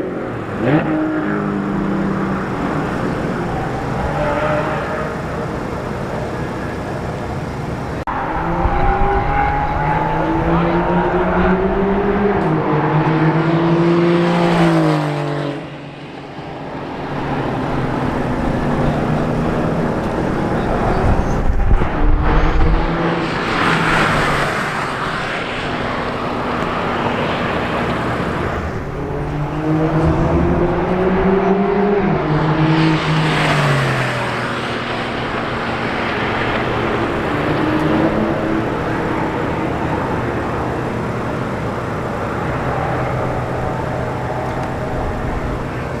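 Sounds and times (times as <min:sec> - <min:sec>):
rush of noise: 0:00.0 - 0:46.0
sports car engine accelerating: 0:00.0 - 0:46.0.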